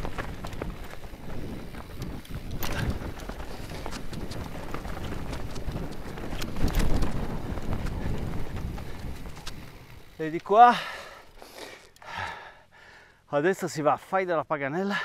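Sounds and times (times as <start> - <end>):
bike jolt: 0.0 - 12.5
bike tyres rolling over stones: 0.0 - 12.5
bike rattling: 0.0 - 12.6.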